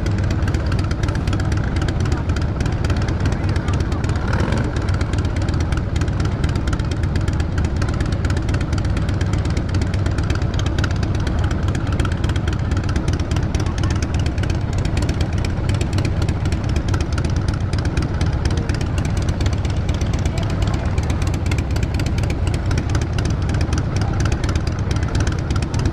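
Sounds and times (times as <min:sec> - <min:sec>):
motorcycle engine cruising: 0:00.0 - 0:25.9
road noise: 0:00.0 - 0:25.9.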